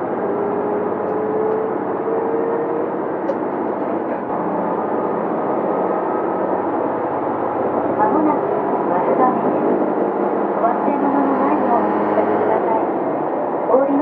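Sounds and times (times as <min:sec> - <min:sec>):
train engine running: 0:00.0 - 0:13.8.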